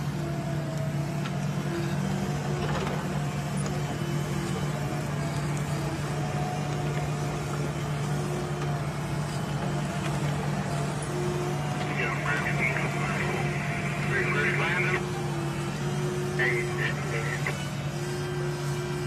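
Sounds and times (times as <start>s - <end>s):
diesel engine droning under load: 0.0s - 19.0s.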